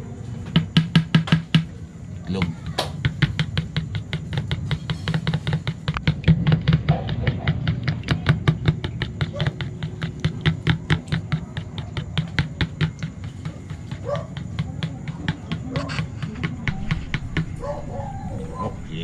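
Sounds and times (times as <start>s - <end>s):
eggs being beaten in a bowl: 2.3s - 17.6s.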